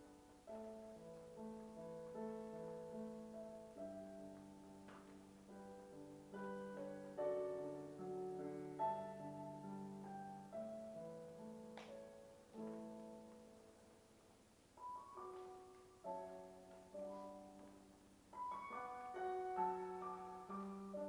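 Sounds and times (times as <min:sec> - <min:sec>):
slow soft piano music: 0:00.0 - 0:21.0.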